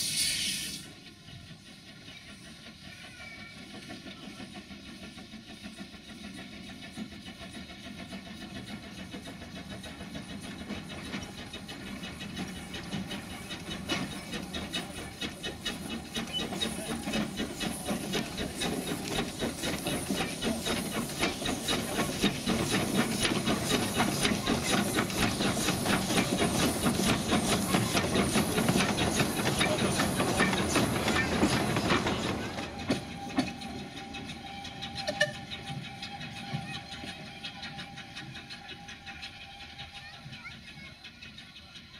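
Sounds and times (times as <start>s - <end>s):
steam hissing: 0.0s - 41.9s
steam locomotive chuffing: 0.0s - 41.9s.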